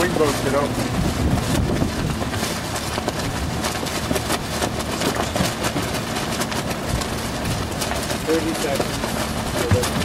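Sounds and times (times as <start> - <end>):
water rushing past boat: 0.0 - 10.0
wind buffeting microphone: 0.0 - 10.0.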